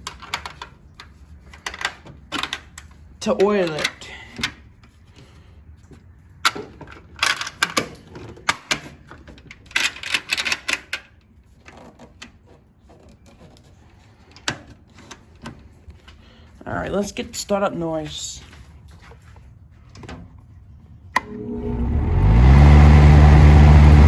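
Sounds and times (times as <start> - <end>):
fan parts clicking and clattering: 0.0 - 24.0.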